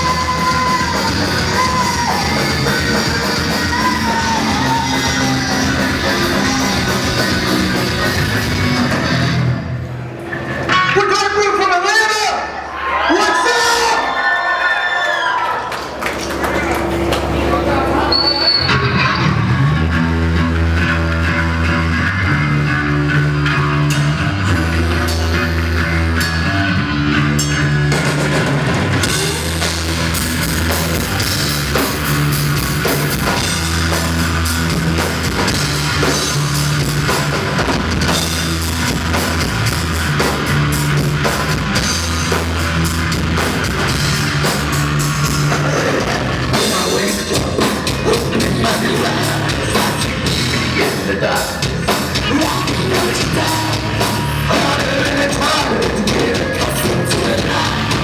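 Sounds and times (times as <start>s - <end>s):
rock band playing live: 0.0s - 11.3s, 16.0s - 58.0s.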